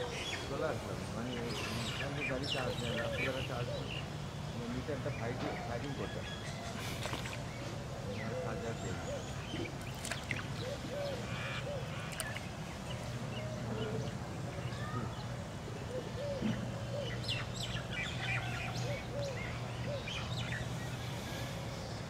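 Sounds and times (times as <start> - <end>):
birds calling and chirping: 0.0 - 22.0
steady low hum: 0.0 - 22.0.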